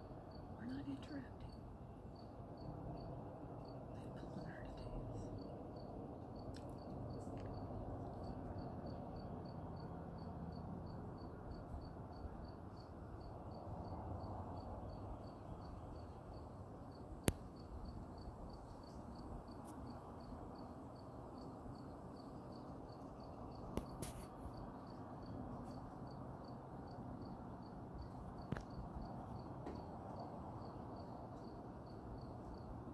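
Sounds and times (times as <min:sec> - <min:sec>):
insect chirping: 0:00.0 - 0:32.9.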